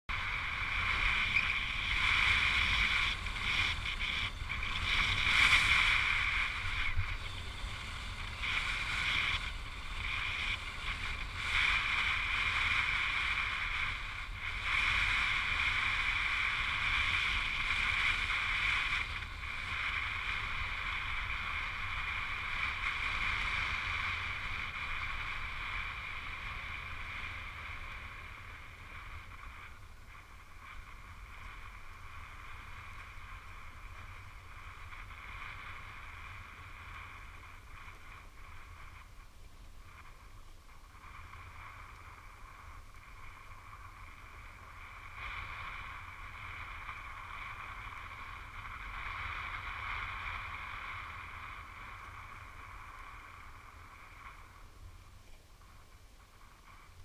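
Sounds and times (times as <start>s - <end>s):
wind rumble on microphone: 0.0s - 57.0s
skis sliding over snow: 0.1s - 57.0s.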